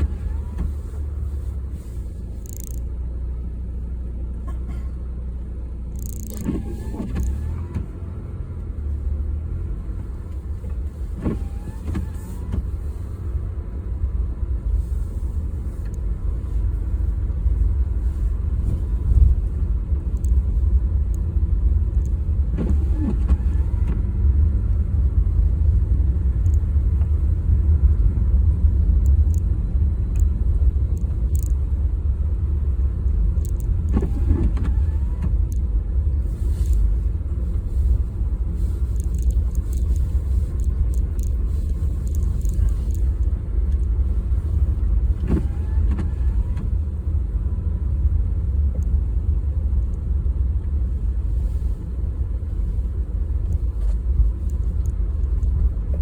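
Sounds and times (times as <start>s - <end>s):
road and engine noise inside car: 0.0s - 56.0s.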